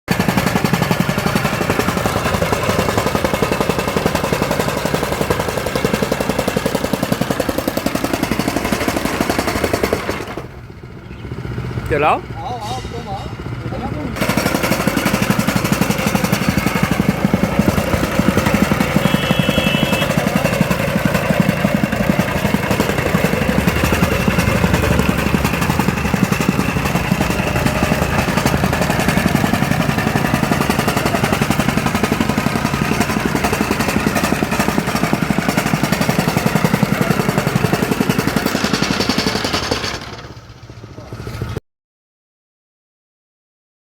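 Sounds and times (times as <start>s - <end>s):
power trowel engine running: 0.1s - 41.6s.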